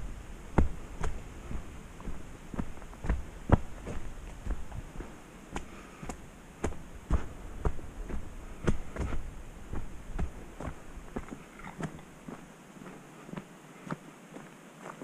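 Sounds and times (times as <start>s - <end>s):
footsteps on dirt trail: 0.0s - 15.0s.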